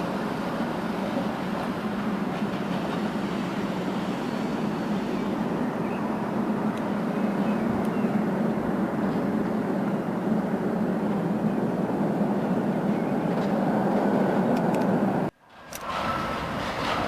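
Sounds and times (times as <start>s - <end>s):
constant low hum: 0.0s - 15.8s
tram rumbling on rails: 0.0s - 17.0s.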